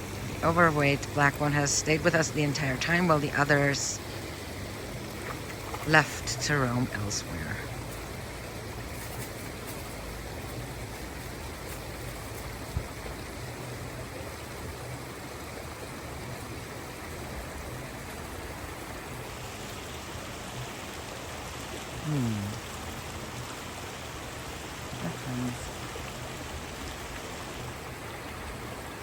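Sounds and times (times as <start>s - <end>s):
river water running: 0.0s - 29.0s.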